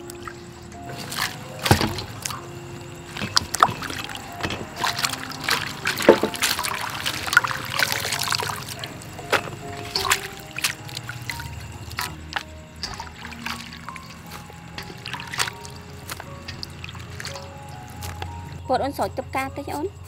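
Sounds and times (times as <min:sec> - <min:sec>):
water sloshing in a steel bowl: 0:00.0 - 0:19.9
soft background music: 0:00.0 - 0:20.0.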